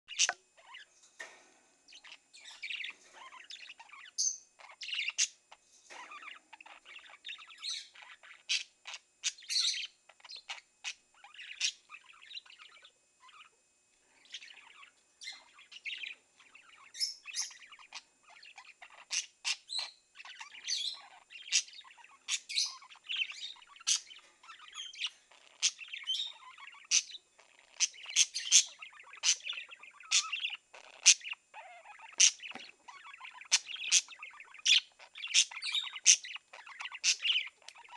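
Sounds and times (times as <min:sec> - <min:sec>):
budgerigars chirping: 0:00.1 - 0:00.9, 0:01.9 - 0:13.5, 0:14.2 - 0:37.9.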